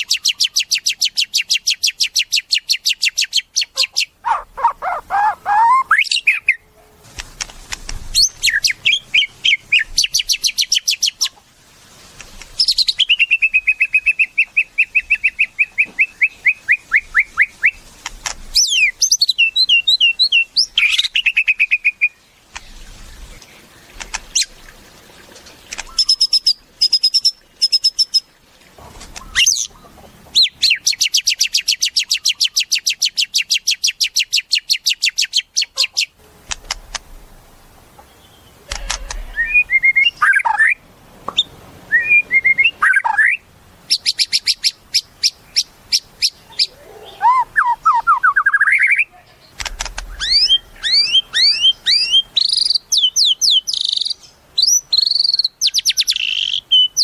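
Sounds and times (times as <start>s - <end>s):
songbird singing varied song: 0.0s - 6.8s, 8.1s - 11.4s, 12.4s - 24.7s, 25.6s - 28.3s, 29.2s - 36.1s, 38.0s - 57.0s.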